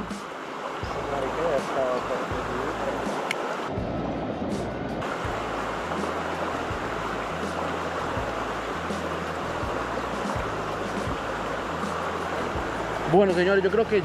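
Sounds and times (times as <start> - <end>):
creek water running over rocks: 0.0 - 14.0.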